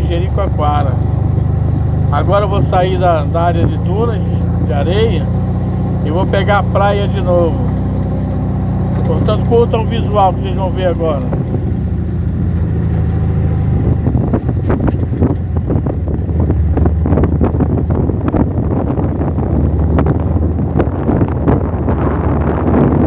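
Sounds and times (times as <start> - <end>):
vehicle knocks and rattles: 0.0 - 21.8
off-road vehicle engine running: 0.0 - 23.0.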